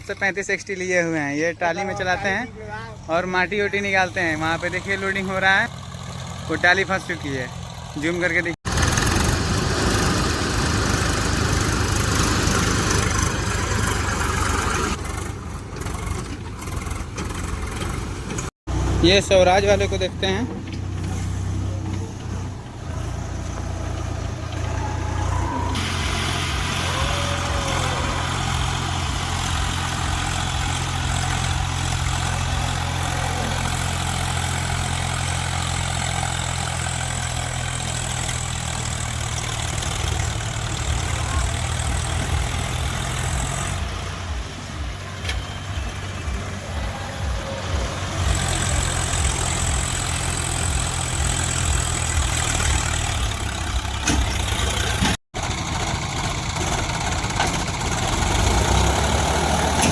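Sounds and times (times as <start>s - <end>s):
tractor diesel engine throbbing: 1.6s - 59.9s.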